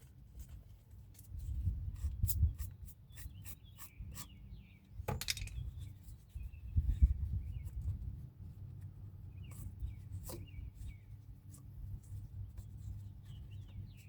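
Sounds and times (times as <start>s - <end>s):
birds chirping faintly: 2.4s - 14.0s.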